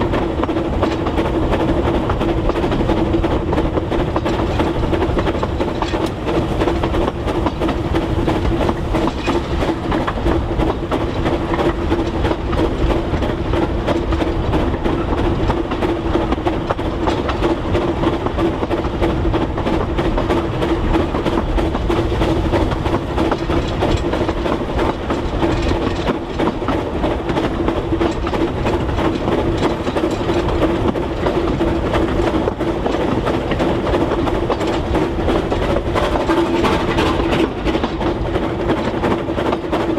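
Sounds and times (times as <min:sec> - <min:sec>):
train wheel and rail clatter: 0:00.0 - 0:39.9.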